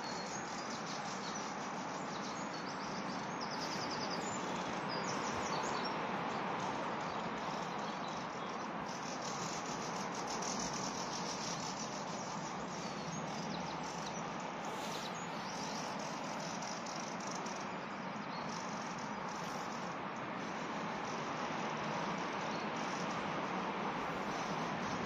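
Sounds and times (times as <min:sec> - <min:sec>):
faint high bird chirps: 0:00.0 - 0:21.5
steady rushing hiss: 0:00.0 - 0:25.0.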